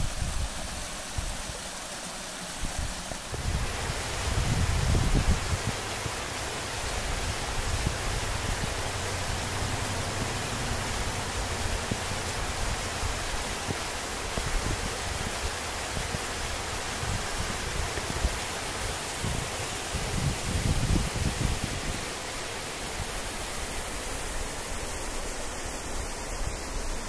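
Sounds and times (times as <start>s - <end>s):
creek rushing over rocks: 0.0s - 27.0s.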